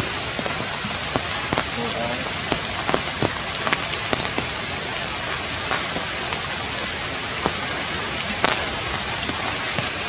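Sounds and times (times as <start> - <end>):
rain falling on foliage: 0.0 - 10.0.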